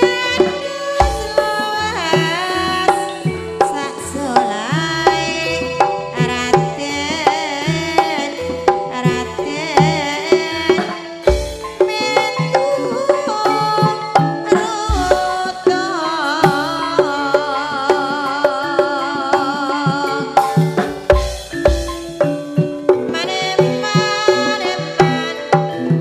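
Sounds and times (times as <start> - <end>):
hand drum beating: 0.0 - 26.0
wavering melody with vibrato: 0.0 - 26.0.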